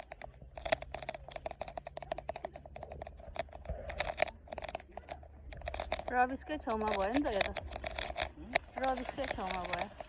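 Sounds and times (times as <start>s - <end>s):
small objects clicking and rattling: 0.0s - 10.0s.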